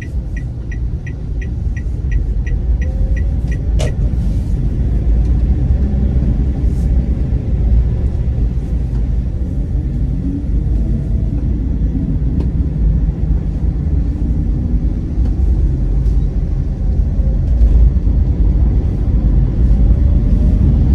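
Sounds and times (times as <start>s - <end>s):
car engine and road noise: 0.0s - 20.9s.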